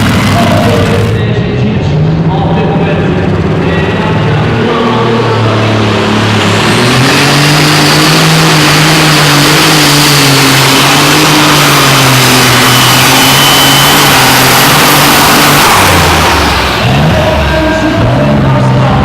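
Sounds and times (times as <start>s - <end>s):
tractor engine running flat out: 0.0s - 19.0s.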